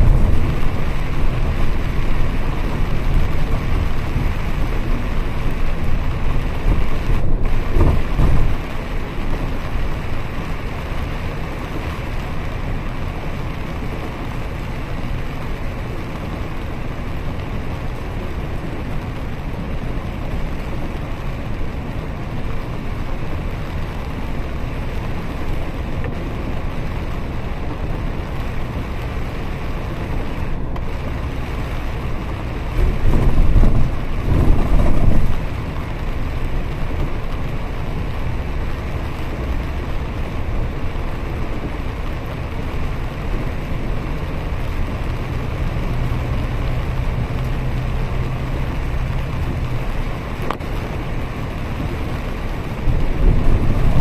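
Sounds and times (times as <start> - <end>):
bus engine and tyres rumbling: 0.0 - 54.0
rain hissing on bus: 0.0 - 54.0.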